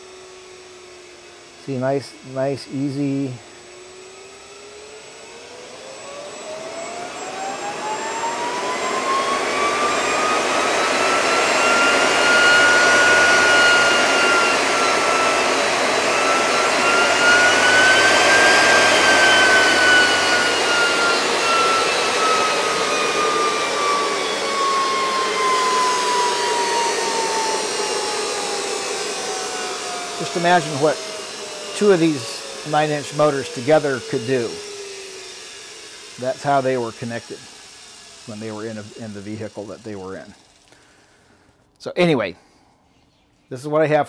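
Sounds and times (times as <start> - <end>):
electric motor whine: 0.0 - 41.3.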